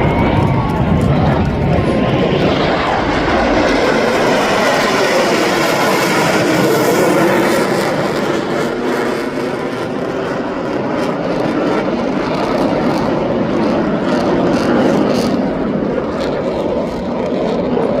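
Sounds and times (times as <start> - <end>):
airplane engine rumble: 0.0 - 18.0.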